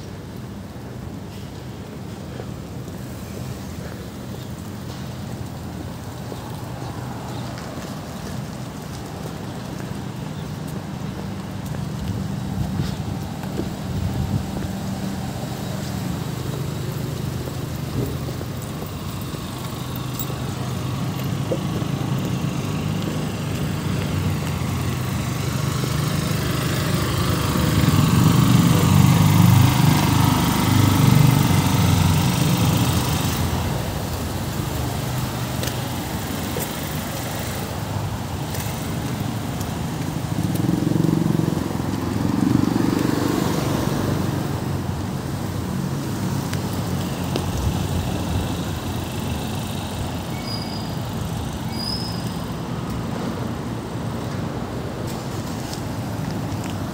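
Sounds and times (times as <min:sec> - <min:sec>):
road traffic rumble: 0:00.0 - 0:56.9
vehicles passing: 0:00.0 - 0:56.9.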